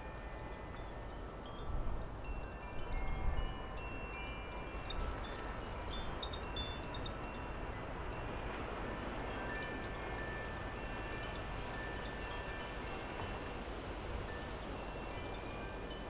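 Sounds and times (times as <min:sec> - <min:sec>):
wind chimes ringing: 0:00.0 - 0:16.0
wind rumble on microphone: 0:00.0 - 0:16.0.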